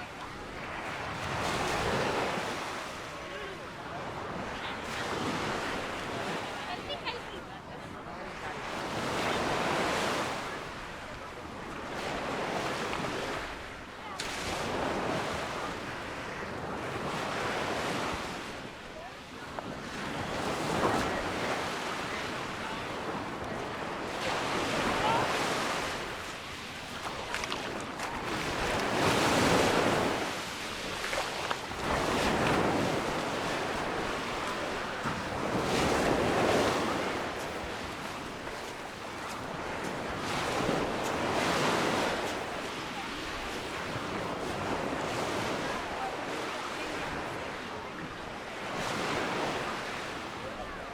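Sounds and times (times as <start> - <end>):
waves breaking on beach: 0.0 - 50.9.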